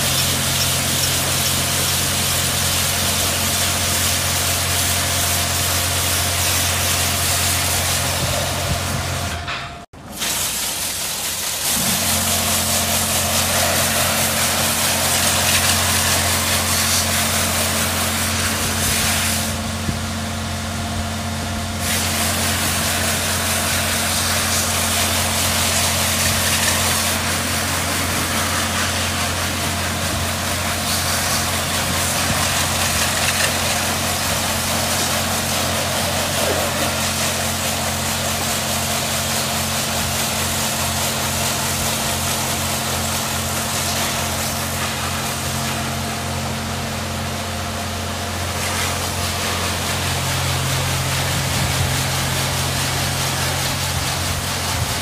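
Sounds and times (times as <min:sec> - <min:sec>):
high-pressure water spray hiss: 0:00.0 - 0:09.4, 0:10.0 - 0:20.2, 0:21.7 - 0:55.0
low machine hum: 0:00.0 - 0:10.2, 0:11.4 - 0:55.0.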